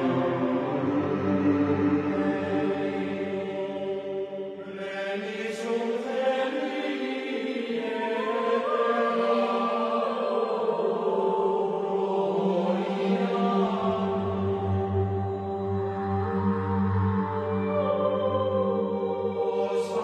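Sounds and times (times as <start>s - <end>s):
chant-like choral music: 0.0s - 20.0s.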